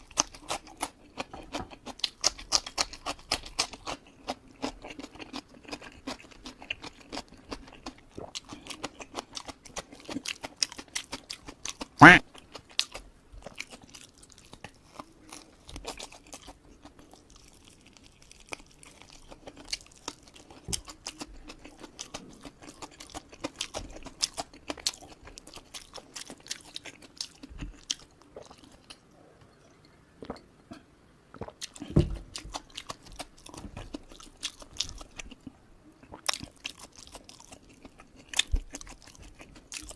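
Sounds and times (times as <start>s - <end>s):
chewing clicks and crunches: 0.0s - 29.0s, 31.4s - 39.9s
faint steady hum: 0.0s - 39.9s.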